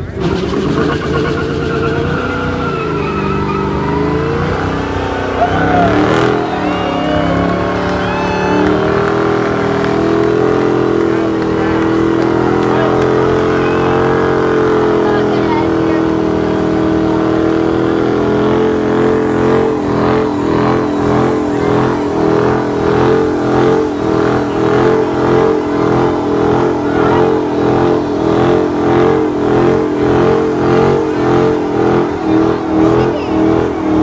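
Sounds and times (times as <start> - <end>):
car engine revving high: 0.0 - 34.0
tyres spinning: 0.0 - 34.0.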